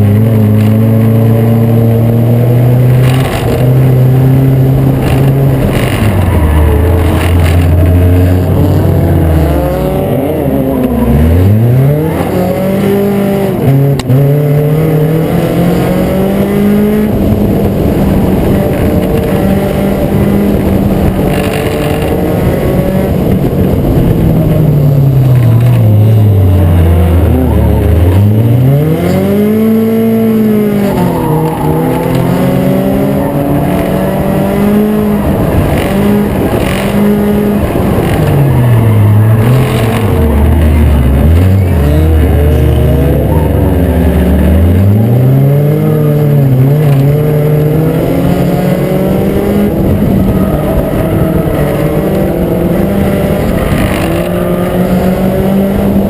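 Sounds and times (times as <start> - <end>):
other race car engines: 0.0 - 56.0
race car engine: 0.0 - 56.0.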